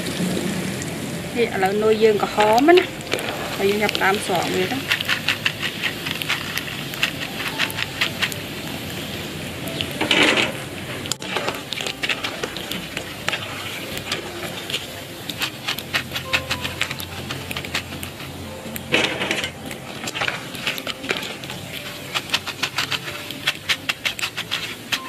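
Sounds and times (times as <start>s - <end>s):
deep-frying in hot oil: 0.0s - 25.0s
wire skimmer stirring: 1.4s - 25.0s.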